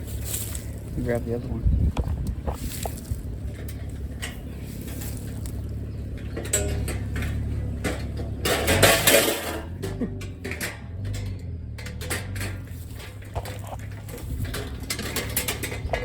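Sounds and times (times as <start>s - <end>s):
metal panels clanking: 0.0s - 16.0s.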